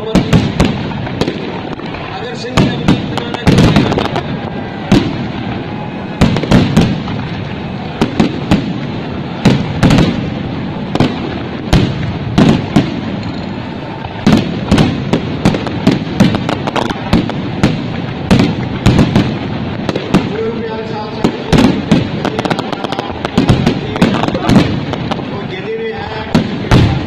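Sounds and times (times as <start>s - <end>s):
background rumble: 0.0s - 27.0s
fireworks bursting with sharp bangs: 0.0s - 27.0s.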